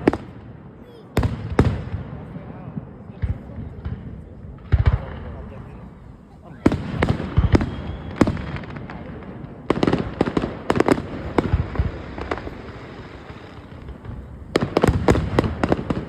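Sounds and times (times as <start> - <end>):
fireworks bangs and cracks: 0.0 - 16.0.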